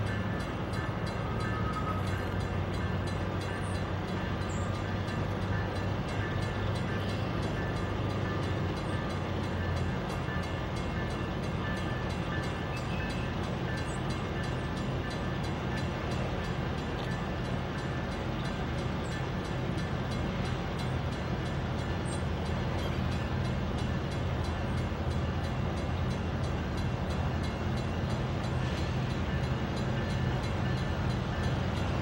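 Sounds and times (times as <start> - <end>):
diesel locomotive engine humming: 0.0 - 32.0.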